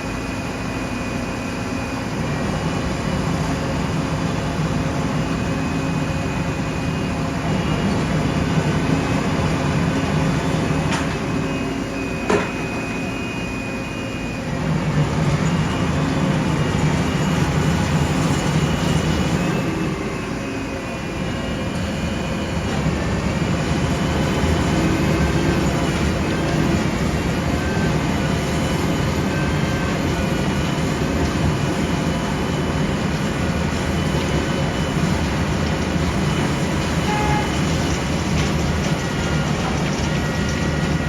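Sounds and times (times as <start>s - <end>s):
turboprop engines droning: 0.0s - 41.0s.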